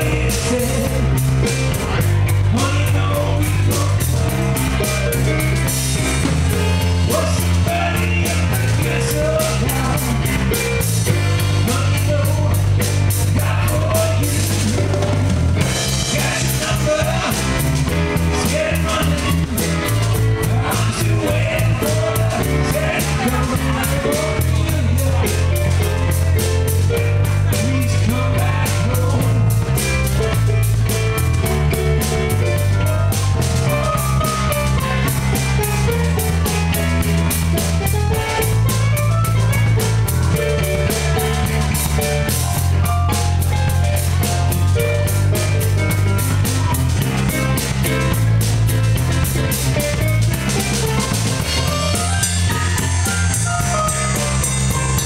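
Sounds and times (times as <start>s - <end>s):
bass: 0.0s - 55.0s
blues band playing: 0.0s - 55.0s
drum kit cymbals beat: 0.0s - 55.0s
keyboard: 0.0s - 55.0s.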